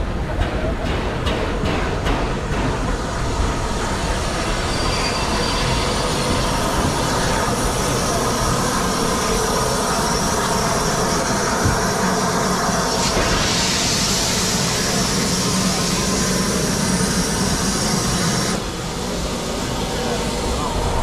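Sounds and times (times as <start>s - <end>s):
steam locomotive hiss and rumble: 0.0s - 21.0s.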